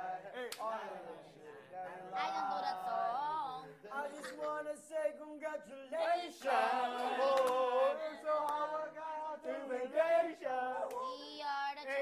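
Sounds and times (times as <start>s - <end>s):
group of people singing: 0.0s - 12.0s.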